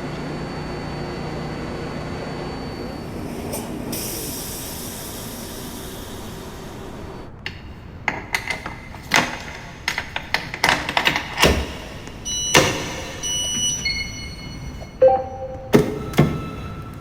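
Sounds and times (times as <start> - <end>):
subway car knocks and clanks: 2.8 - 17.0.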